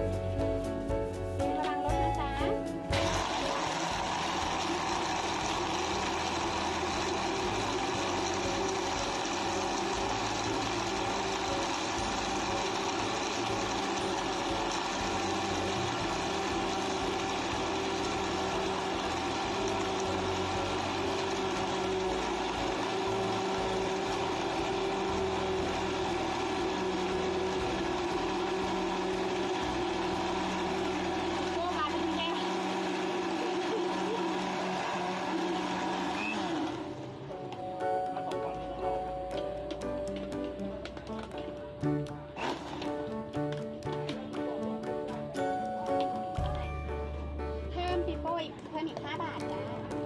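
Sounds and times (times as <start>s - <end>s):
electric blender running: 2.9s - 46.5s.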